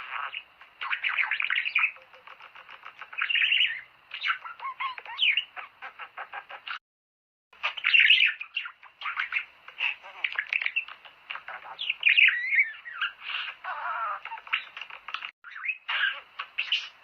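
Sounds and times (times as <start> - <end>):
budgerigars chattering: 0.0 - 6.8, 7.6 - 17.0.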